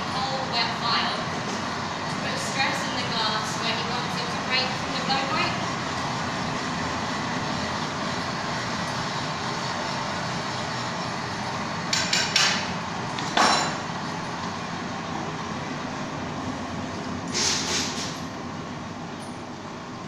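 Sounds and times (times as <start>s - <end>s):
furnace roaring: 0.0s - 20.0s.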